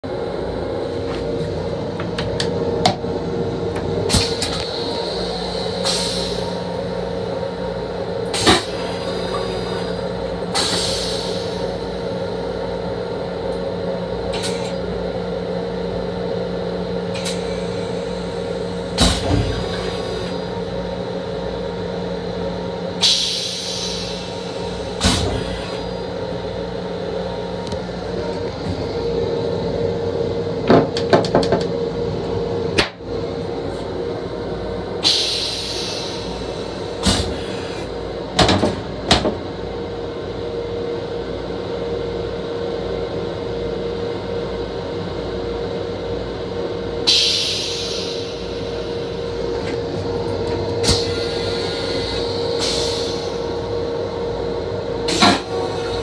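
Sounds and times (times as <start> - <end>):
railcar hum and rumble: 0.0 - 56.0.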